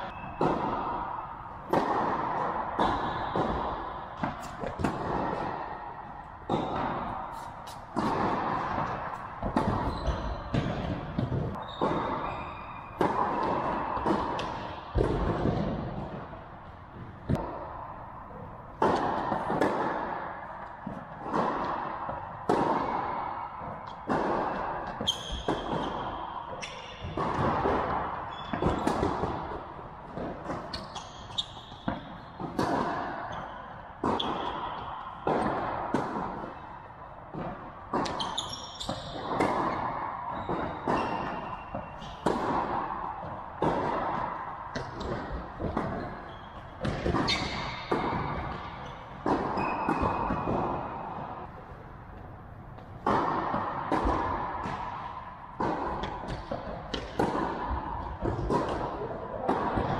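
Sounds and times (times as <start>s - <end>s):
tennis ball hits and bounces: 0.1s - 16.3s, 18.7s - 36.6s, 37.3s - 51.8s, 52.7s - 59.9s.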